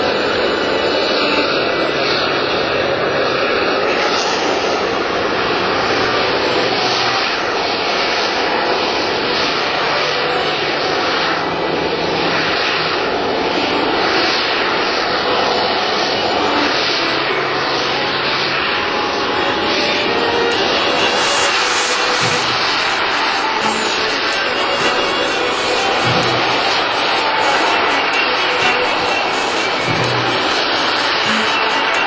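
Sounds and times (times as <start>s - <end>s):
jet engine rushing noise: 0.0s - 32.0s.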